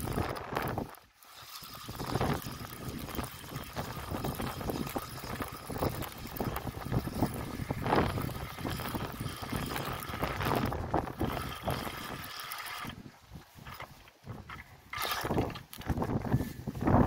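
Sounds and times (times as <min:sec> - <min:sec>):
fishing reel rattling: 0:00.0 - 0:16.5
wind rumble on microphone: 0:00.0 - 0:17.0.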